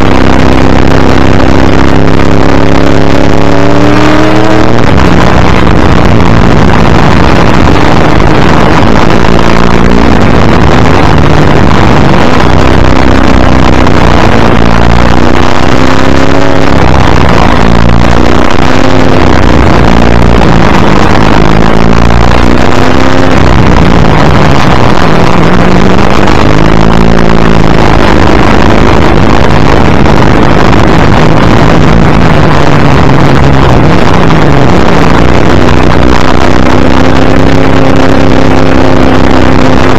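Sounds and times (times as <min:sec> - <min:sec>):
race car engine revving: 0:00.0 - 0:39.9
wind noise: 0:00.0 - 0:39.9.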